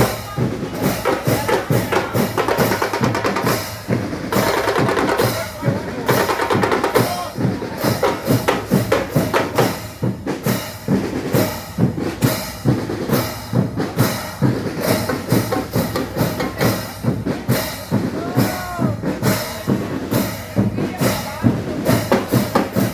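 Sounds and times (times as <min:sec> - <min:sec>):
band playing: 0:00.0 - 0:22.9
steady drum beat: 0:00.0 - 0:22.9.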